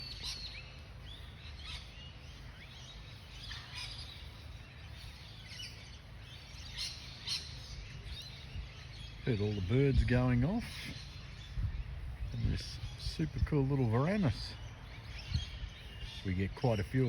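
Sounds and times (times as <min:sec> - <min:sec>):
birds alarm chirping: 0:00.0 - 0:17.0.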